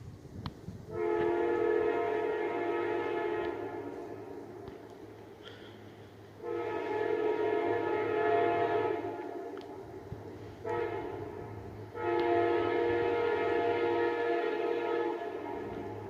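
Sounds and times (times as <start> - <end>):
low engine rumble: 0.0 - 16.0
locomotive air horn blasts: 0.9 - 16.0.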